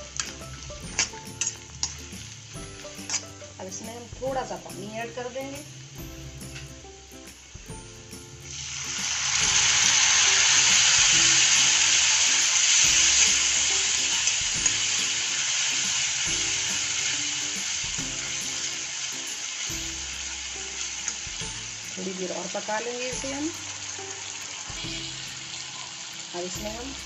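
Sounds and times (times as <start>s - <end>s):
soft background music: 0.0s - 27.0s
water sizzling in hot oil: 0.0s - 27.0s.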